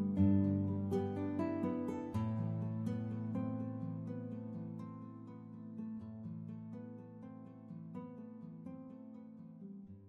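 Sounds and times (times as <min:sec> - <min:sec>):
plucked strings music: 0:00.0 - 0:10.0.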